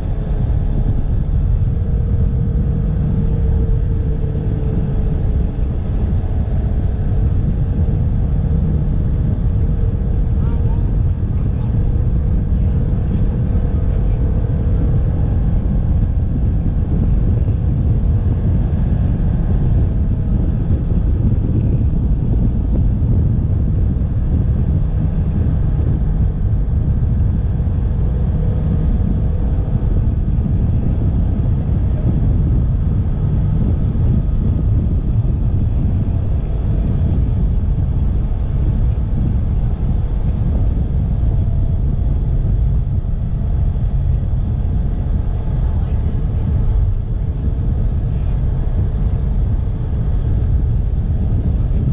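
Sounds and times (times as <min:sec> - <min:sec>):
engine running with low rumble: 0:00.0 - 0:51.9.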